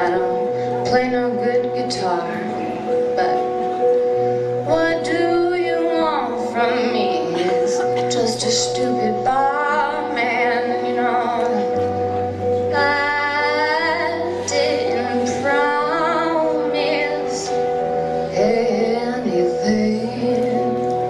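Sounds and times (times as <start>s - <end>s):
woman singing slow song: 0.0s - 3.6s, 4.6s - 12.0s, 12.6s - 21.0s
electric guitar chords: 0.0s - 21.0s.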